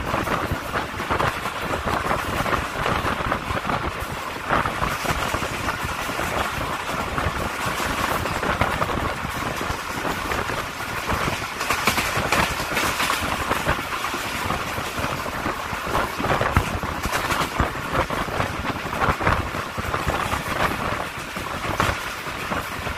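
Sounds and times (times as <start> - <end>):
clacks and rattles: 0.0 - 22.9
train wheel and rail noise: 0.0 - 22.9.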